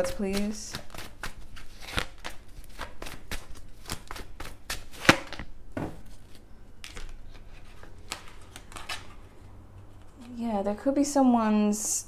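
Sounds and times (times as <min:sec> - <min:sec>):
cards being shuffled: 0:00.0 - 0:10.4.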